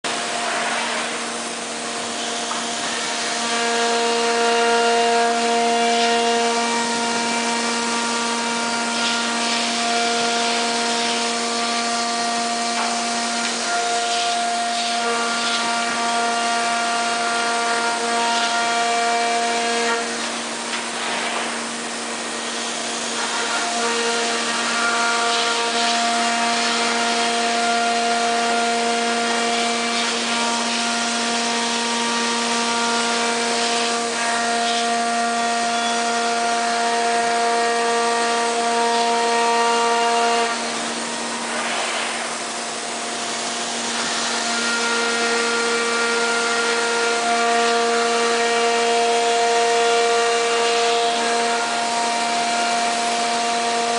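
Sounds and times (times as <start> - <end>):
router bit cutting: 0.0 - 53.9
router spindle whine: 0.0 - 53.9.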